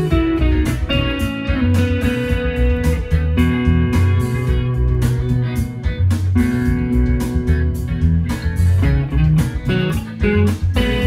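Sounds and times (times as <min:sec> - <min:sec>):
electric guitar through amp: 0:00.0 - 0:11.0
low bass line: 0:00.0 - 0:11.0
steady drum beat: 0:00.0 - 0:11.0.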